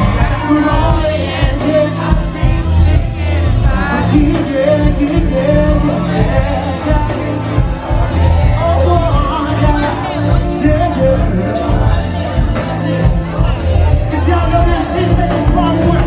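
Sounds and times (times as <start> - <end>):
amplified band music: 0.0 - 16.0
man singing live: 0.0 - 16.0.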